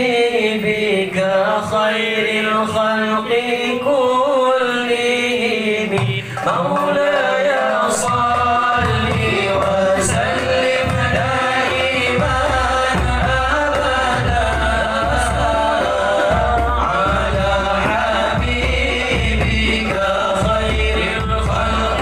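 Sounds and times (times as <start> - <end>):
men singing a devotional chant: 0.0 - 22.0.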